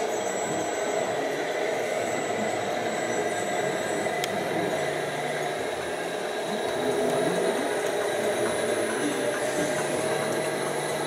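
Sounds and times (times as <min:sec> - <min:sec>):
electronic engine sound: 0:00.0 - 0:11.0
large hall background noise: 0:00.0 - 0:11.0.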